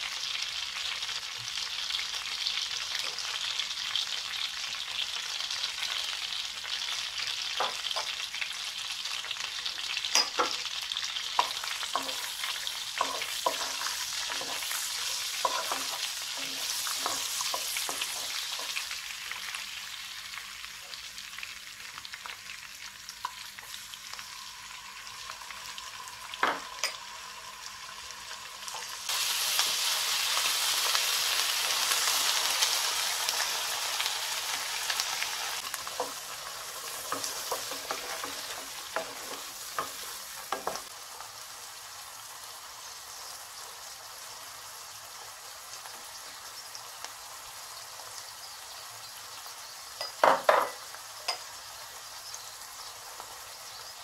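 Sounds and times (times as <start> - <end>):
butter and onions sizzling: 0.0 - 54.0.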